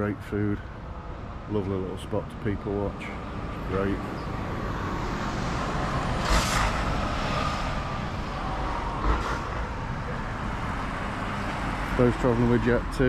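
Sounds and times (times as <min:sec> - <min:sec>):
steady road noise: 0:00.0 - 0:13.0
vehicles passing close by: 0:00.0 - 0:13.0.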